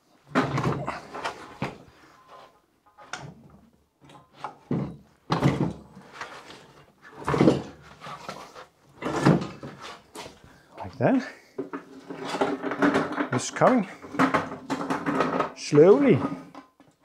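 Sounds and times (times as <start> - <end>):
metal clunks and scraping: 0.3 - 17.0.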